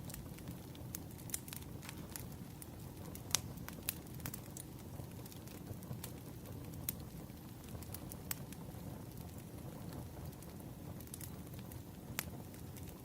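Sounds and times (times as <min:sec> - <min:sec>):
firewood crackling and popping: 0:00.0 - 0:13.0
flames rumbling: 0:00.0 - 0:13.0.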